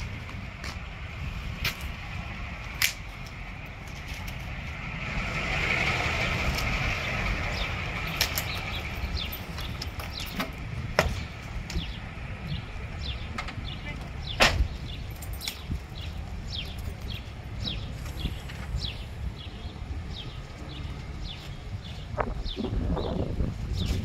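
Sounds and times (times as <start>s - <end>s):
vehicle passing: 0.0s - 23.7s
wind rumble on microphone: 0.0s - 24.0s.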